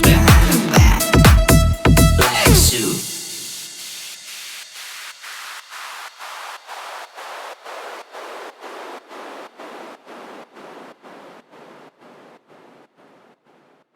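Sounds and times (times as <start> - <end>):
gated white noise pulses: 0.0 - 13.9.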